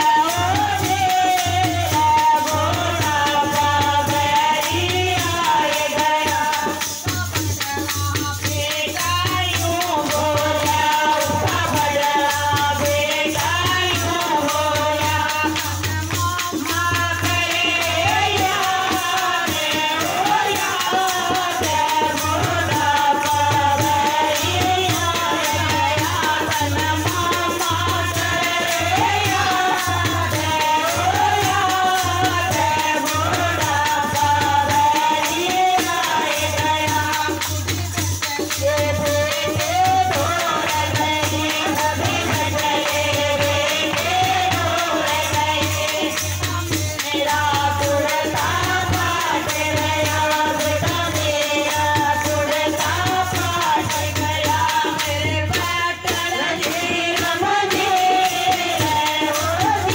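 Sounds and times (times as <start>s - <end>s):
jingling hand percussion: 0.0s - 59.9s
woman singing: 0.0s - 59.9s.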